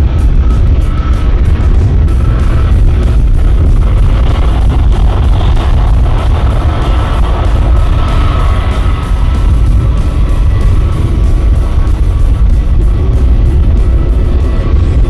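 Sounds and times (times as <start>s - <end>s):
jet engines roaring with whine: 0.0s - 15.0s
wind buffeting microphone: 0.0s - 15.0s.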